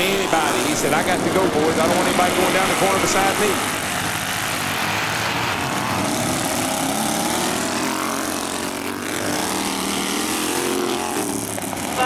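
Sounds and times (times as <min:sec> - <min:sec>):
lawn tractor engines racing: 0:00.0 - 0:12.0.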